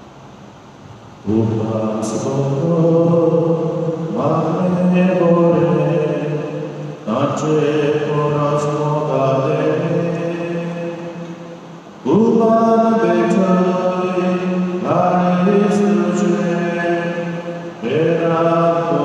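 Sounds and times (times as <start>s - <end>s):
slow hymn singing: 0.0s - 19.0s.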